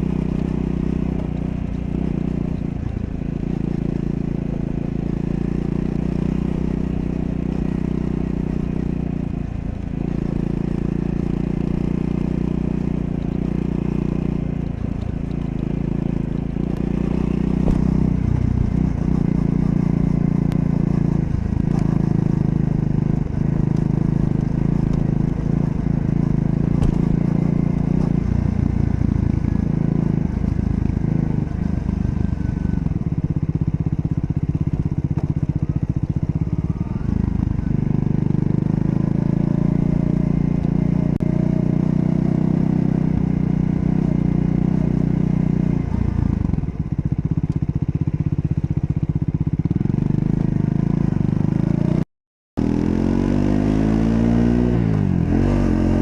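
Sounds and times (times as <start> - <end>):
motorcycle engine running: 0.0 - 52.0, 52.6 - 56.0.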